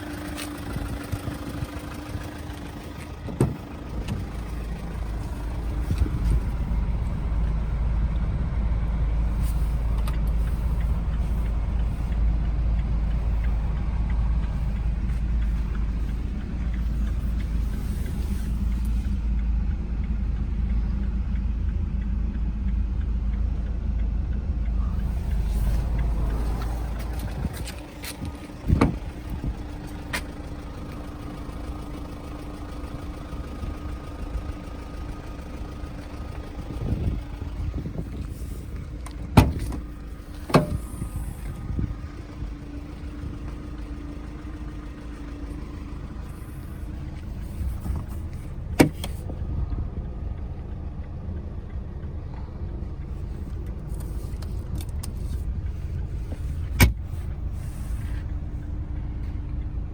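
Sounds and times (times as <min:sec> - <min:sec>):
low vehicle rumble: 0:00.0 - 0:59.9.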